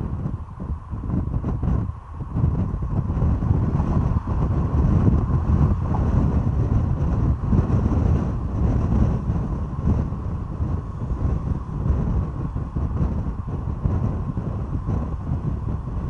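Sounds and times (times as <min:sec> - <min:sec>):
vehicle rumble: 0:00.0 - 0:16.0
wind buffeting microphone: 0:00.0 - 0:16.0.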